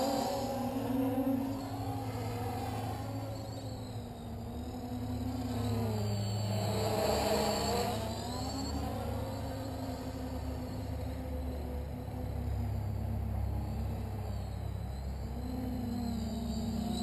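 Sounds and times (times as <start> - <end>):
quadcopter motors buzzing whine: 0.0 - 17.0.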